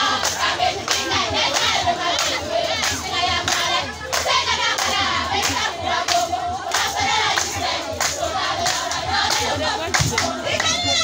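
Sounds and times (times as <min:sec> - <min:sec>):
group singing: 0:00.0 - 0:11.0
hands clapping in rhythm: 0:00.0 - 0:11.0.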